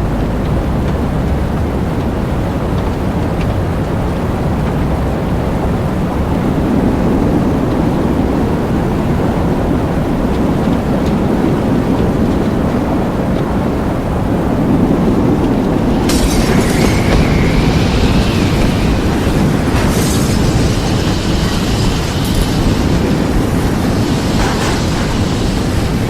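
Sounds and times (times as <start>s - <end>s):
loud storm wind: 0.0s - 26.0s.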